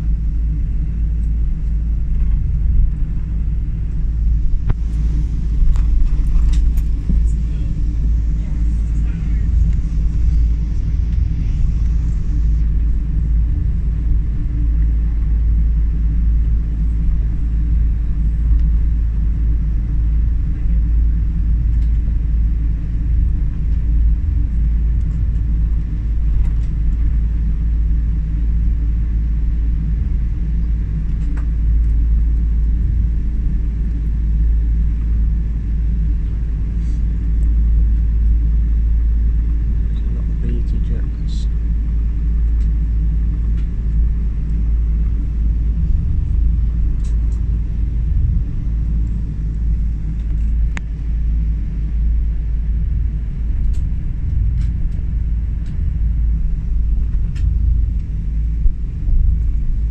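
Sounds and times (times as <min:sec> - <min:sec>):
aircraft cabin low rumble: 0:00.0 - 0:59.9.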